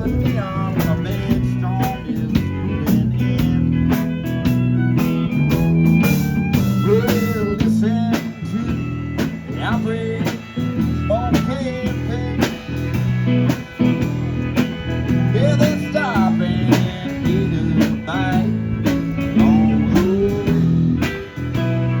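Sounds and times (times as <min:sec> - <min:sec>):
country band playing: 0:00.0 - 0:22.0
drums keeping a steady beat: 0:00.0 - 0:22.0
electric guitar lead with bent notes: 0:00.0 - 0:22.0.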